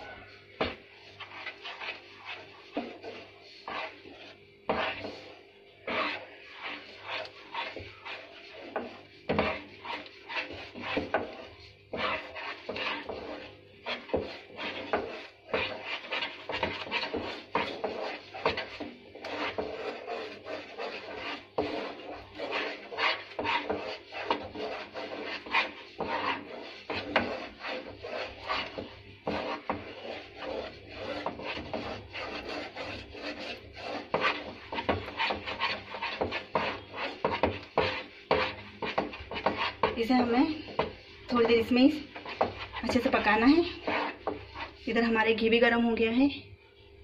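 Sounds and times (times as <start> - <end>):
utensil scraping batter in pan: 0.0 - 45.8.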